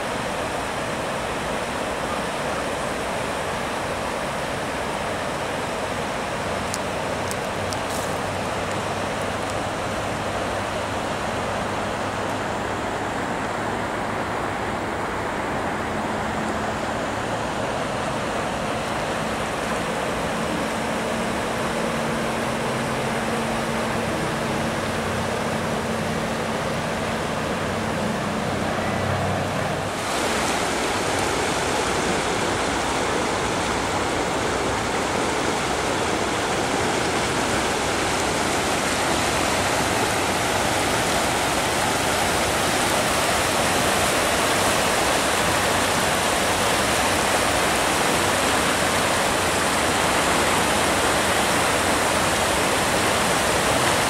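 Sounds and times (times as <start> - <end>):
floodwater rushing and churning: 0.0 - 54.0.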